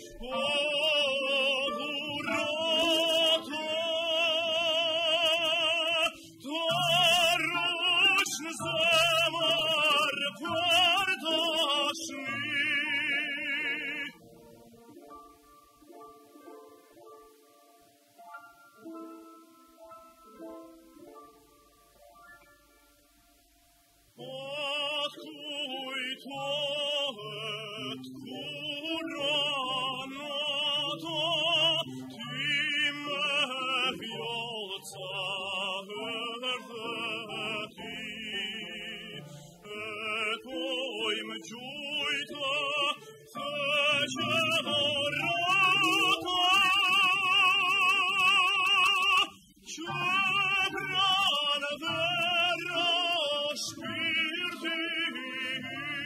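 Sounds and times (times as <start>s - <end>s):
singing voice with vibrato: 0.0s - 14.3s, 24.2s - 56.0s.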